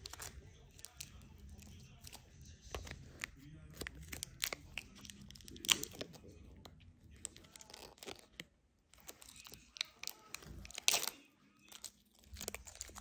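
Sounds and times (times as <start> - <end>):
plastic wrapper crinkling and tearing: 0.0 - 6.3, 7.2 - 13.0.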